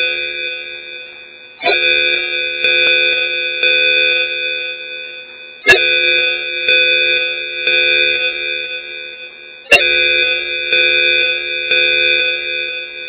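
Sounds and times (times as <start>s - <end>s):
electronic call chime: 0.0s - 13.0s.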